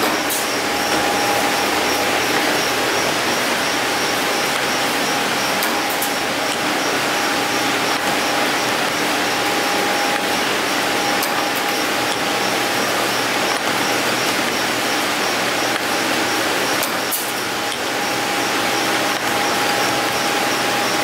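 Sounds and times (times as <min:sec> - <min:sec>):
machine mechanical din with whine: 0:00.0 - 0:21.0.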